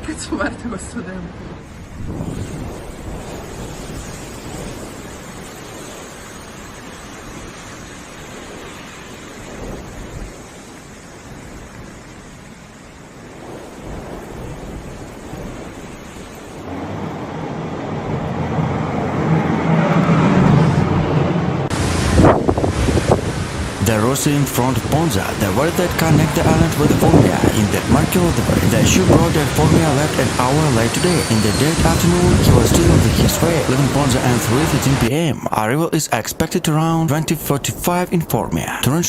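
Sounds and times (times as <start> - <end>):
rushing water: 0.0 - 39.0
wind: 0.0 - 39.0.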